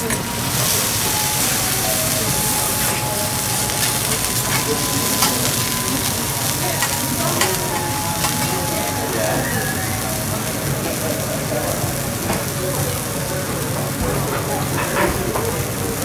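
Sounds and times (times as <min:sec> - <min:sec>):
meat sizzling on a griddle: 0:00.0 - 0:16.0.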